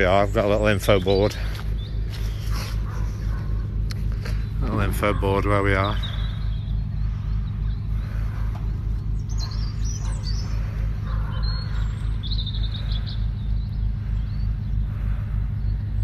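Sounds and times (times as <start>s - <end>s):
low pulsing rumble: 0.0s - 16.0s
small birds chirping: 0.0s - 16.0s.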